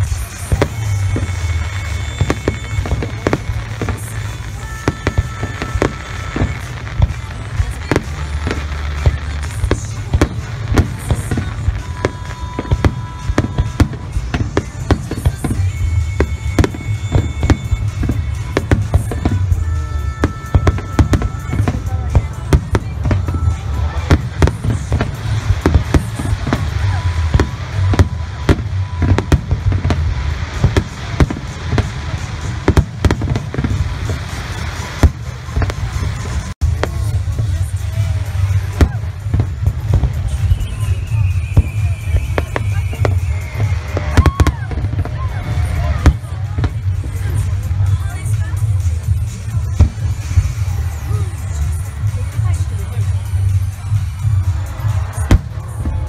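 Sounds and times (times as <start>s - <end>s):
continuous low rumble: 0.0s - 56.0s.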